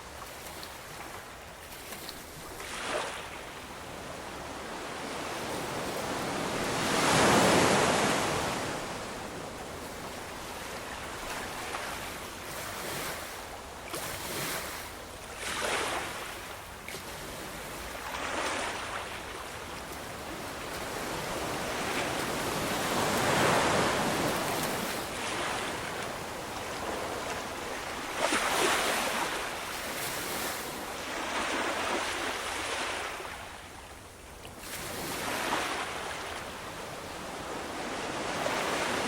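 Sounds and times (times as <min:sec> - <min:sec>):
ocean waves washing onto shore: 0:00.0 - 0:33.8, 0:34.5 - 0:39.0.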